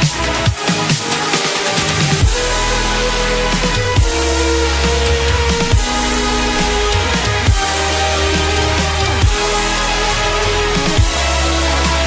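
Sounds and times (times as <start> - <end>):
electronic dance music: 0.0 - 12.0
pitch-dropping bass hits: 2.2 - 12.0.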